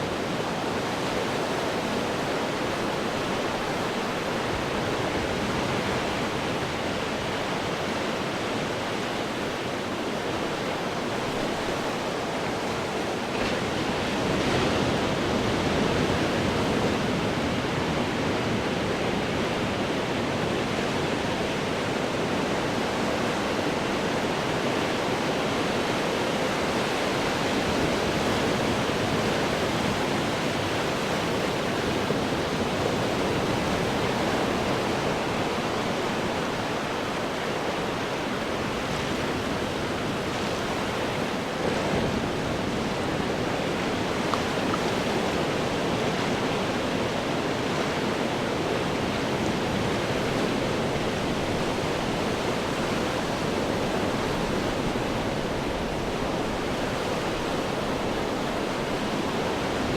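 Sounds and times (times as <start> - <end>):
ocean waves breaking on rocks: 0.1 - 59.9.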